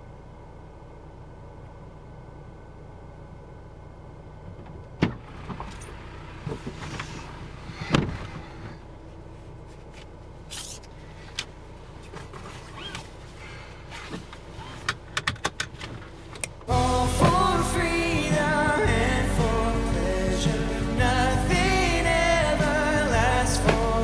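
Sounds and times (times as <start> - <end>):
car cabin hum: 0.0 - 24.0.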